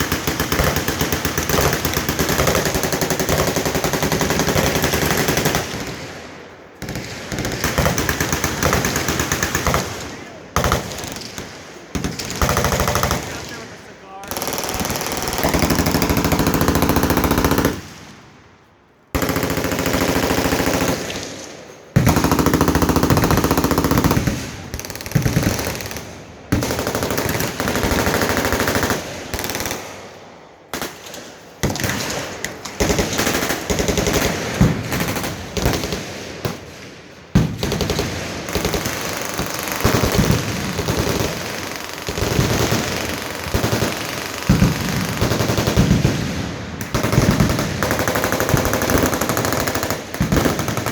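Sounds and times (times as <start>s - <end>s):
machine guns firing: 0.0s - 18.4s, 19.1s - 50.9s.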